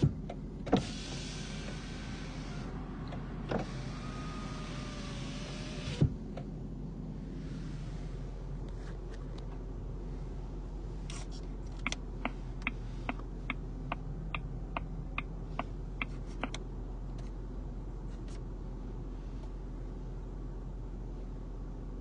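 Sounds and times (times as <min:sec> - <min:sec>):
low car cabin hum: 0:00.0 - 0:22.0.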